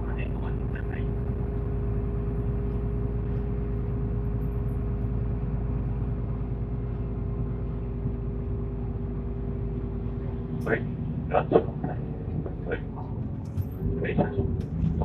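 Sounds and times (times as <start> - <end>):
bus engine rumble: 0.0 - 15.0
drivetrain whine: 0.0 - 15.0.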